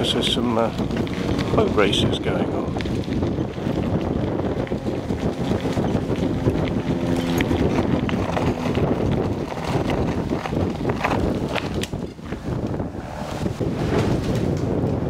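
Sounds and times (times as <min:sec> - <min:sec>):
bike tyres crunching on gravel: 0:00.0 - 0:15.0
wind buffeting microphone: 0:00.0 - 0:15.0.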